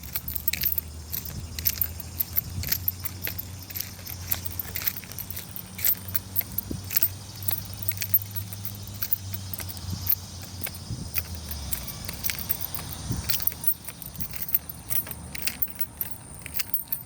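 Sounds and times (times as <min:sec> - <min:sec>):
keys jingling while walking: 0:00.0 - 0:17.0
low engine hum: 0:00.0 - 0:17.0.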